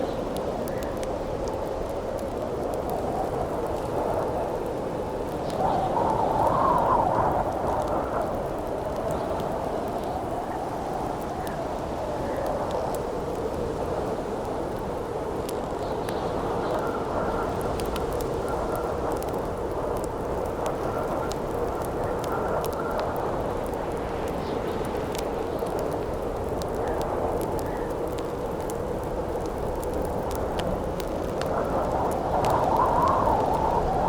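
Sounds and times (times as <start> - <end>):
crackling campfire pops: 0.0 - 34.0
howling wind: 0.0 - 34.0.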